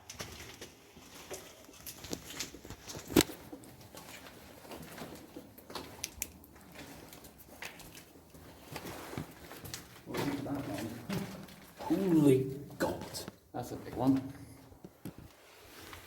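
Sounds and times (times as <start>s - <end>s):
footsteps on gritty concrete: 0.0s - 16.0s.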